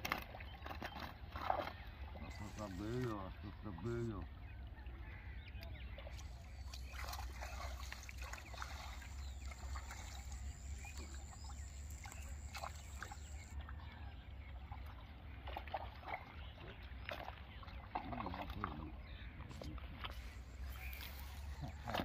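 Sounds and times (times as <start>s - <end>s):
water sloshing and trickling: 0.0s - 22.0s.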